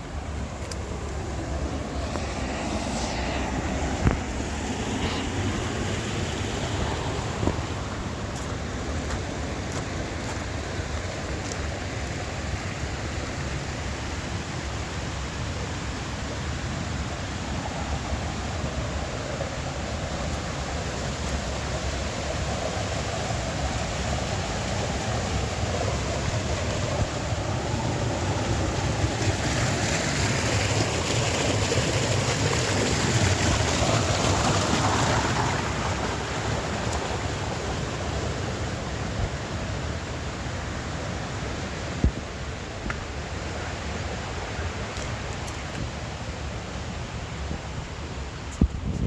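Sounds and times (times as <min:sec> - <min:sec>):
rushing mountain water: 0:00.0 - 0:49.0
wind rumble on microphone: 0:00.0 - 0:49.0.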